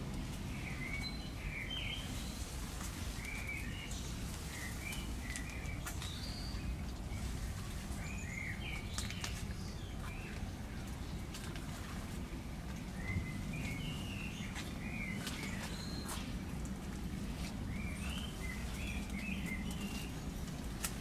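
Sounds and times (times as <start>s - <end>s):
low background rumble: 0.0s - 21.0s
songbirds chirping: 0.0s - 21.0s.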